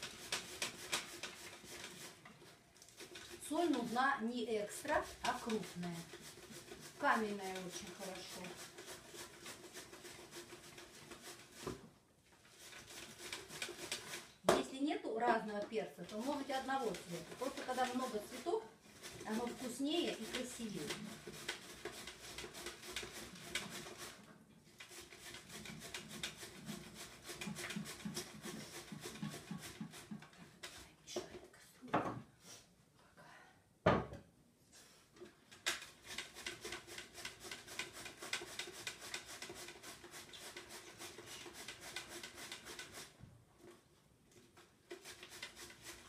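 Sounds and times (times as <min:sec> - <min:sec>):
cabbage shredding on slicer: 0:00.0 - 0:11.7, 0:12.5 - 0:14.4, 0:16.0 - 0:30.8, 0:35.5 - 0:43.2, 0:44.6 - 0:46.0.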